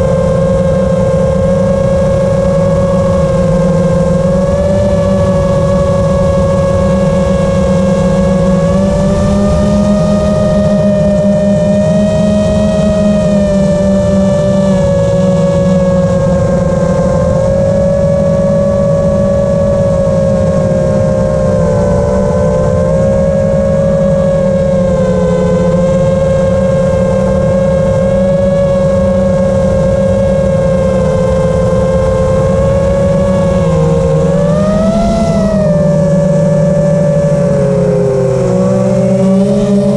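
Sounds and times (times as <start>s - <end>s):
low rushing noise: 0.0s - 39.9s
quadcopter motors whining: 0.0s - 39.9s.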